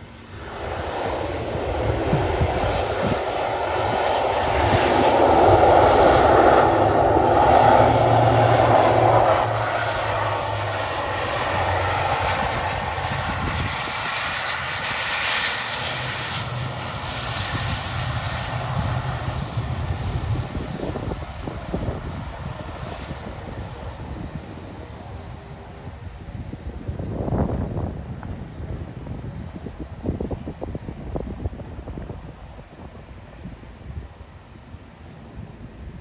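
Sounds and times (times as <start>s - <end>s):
turboprop engines and propellers: 0.0s - 36.0s.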